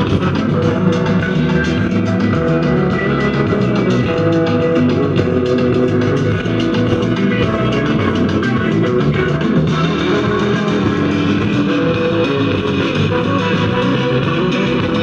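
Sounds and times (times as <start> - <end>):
rock song through loudspeaker: 0.0 - 15.0.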